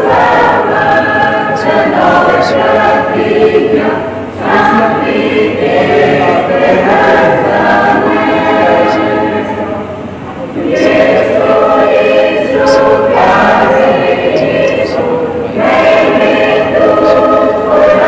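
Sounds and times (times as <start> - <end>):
mixed choir singing a hymn: 0.0 - 18.0.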